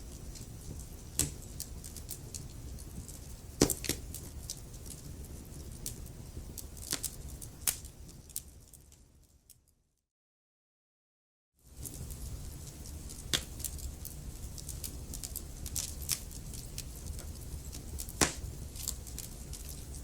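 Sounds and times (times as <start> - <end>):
wood fire crackling: 0.0 - 9.8, 11.6 - 20.0.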